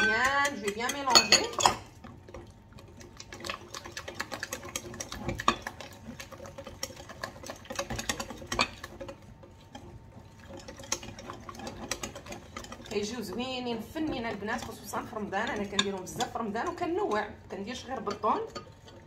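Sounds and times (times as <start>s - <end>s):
batter sloshing: 0.0s - 19.0s
whisk clicking against glass bowl: 3.2s - 19.0s.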